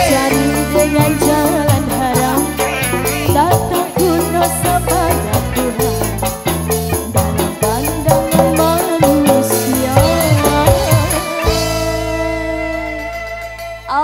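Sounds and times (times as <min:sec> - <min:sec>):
woman singing: 0:00.0 - 0:06.2, 0:07.4 - 0:13.2
band playing: 0:00.0 - 0:14.0.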